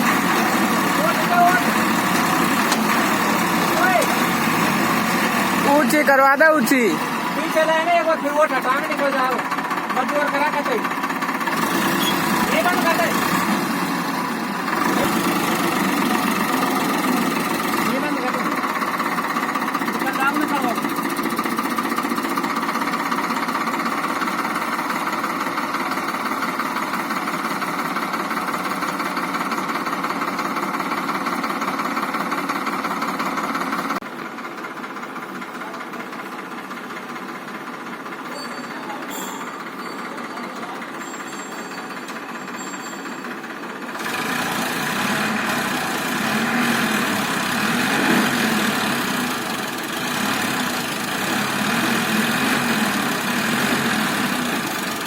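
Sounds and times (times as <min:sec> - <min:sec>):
tractor engine chugging: 0:00.0 - 0:55.0.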